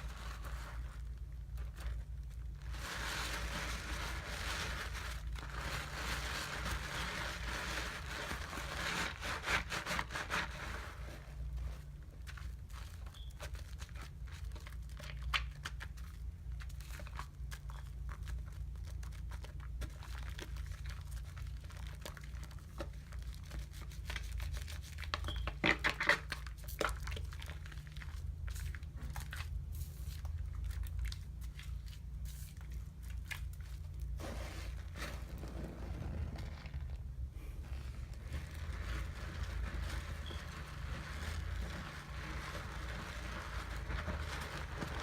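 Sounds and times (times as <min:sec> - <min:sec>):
lather crackling and squishing: 0:00.0 - 0:45.0.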